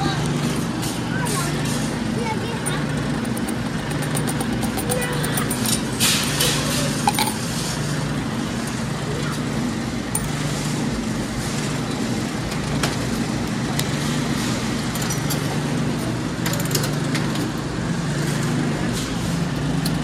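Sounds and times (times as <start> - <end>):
store background hum: 0.0 - 20.0.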